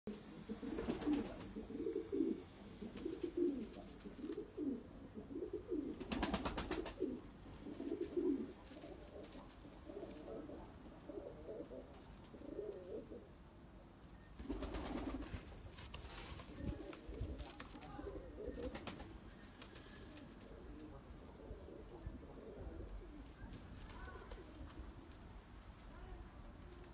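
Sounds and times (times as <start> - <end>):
pigeon cooing: 0.1 - 13.3, 16.2 - 25.0.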